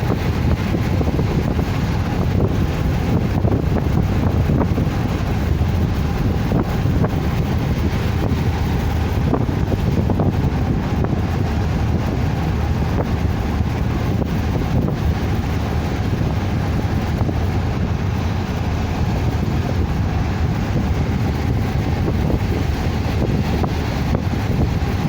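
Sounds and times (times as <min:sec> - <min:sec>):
car rumbling on the move: 0:00.0 - 0:25.0
wind buffeting microphone: 0:00.0 - 0:25.0.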